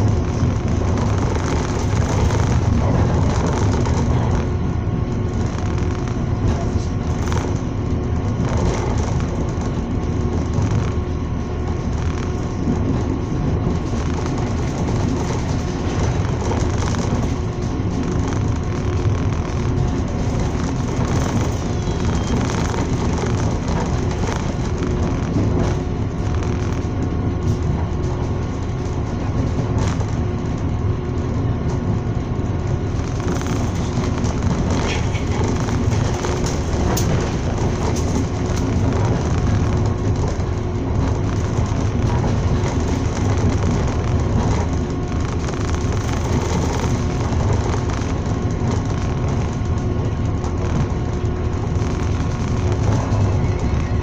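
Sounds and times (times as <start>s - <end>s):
low hum: 0.0s - 54.0s
train wheels rumbling: 0.0s - 54.0s.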